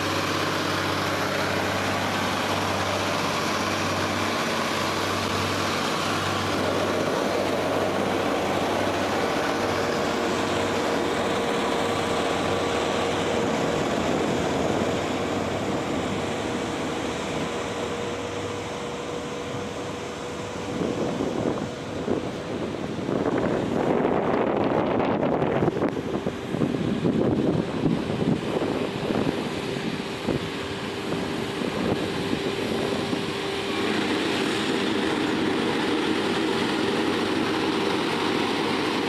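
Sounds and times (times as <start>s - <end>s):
constant machine whine: 0.0s - 39.0s
heavy machinery engine drone: 0.0s - 39.0s.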